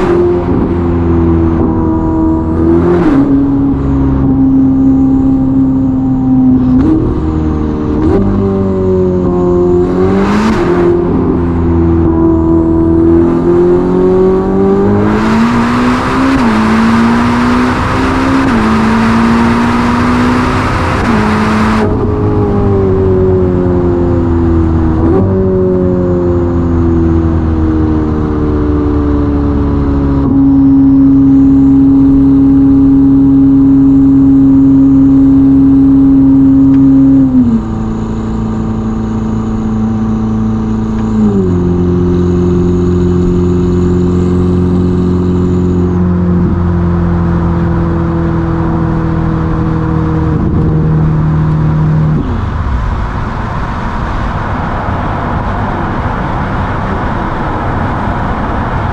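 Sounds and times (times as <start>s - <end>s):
car engine decelerating: 0.0s - 58.9s.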